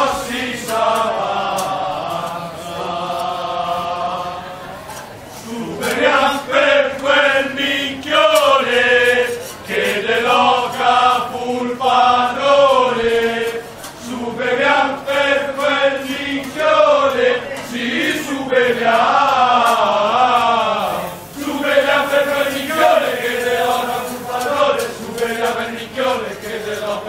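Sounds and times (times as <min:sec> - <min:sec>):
men singing a chant: 0:00.0 - 0:04.6, 0:05.4 - 0:27.0.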